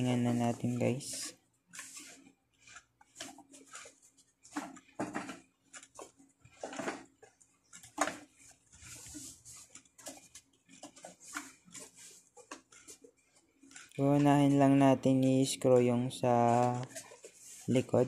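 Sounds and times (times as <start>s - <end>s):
plastic parts clicking and knocking: 0.0s - 17.8s
plastic scraping rustles: 0.0s - 18.0s.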